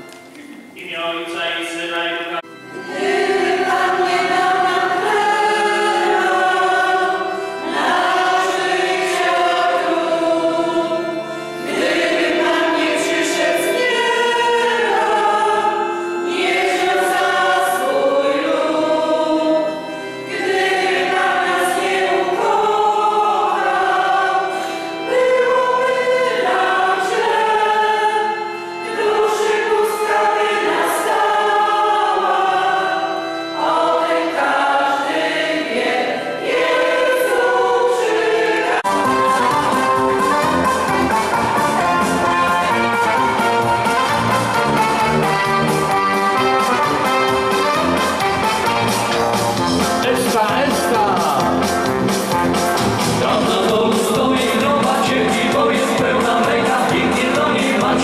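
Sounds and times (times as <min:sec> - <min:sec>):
church choir singing a hymn: 0:00.8 - 0:49.2, 0:53.1 - 0:58.0.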